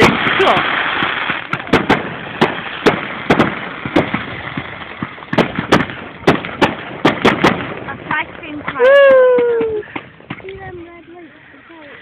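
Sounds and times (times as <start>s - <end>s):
fireworks bangs: 0.0s - 10.9s.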